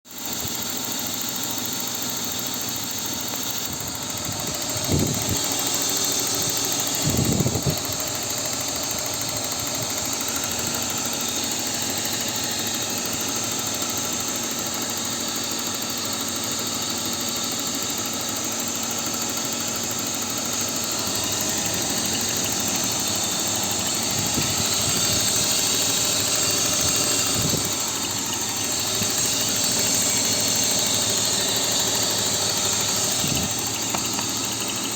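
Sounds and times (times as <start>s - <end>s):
car engine idling with ticking: 0.1s - 34.9s.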